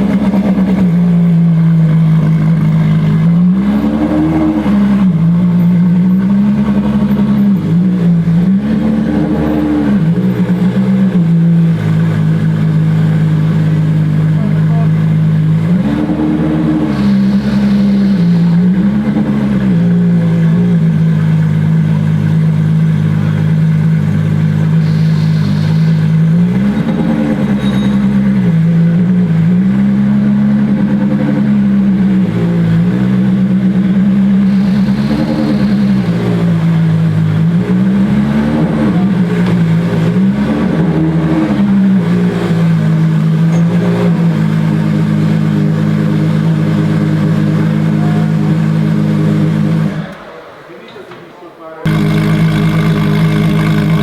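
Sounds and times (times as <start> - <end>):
car engine idling with throttle blips: 0.0 - 50.8, 51.4 - 54.0.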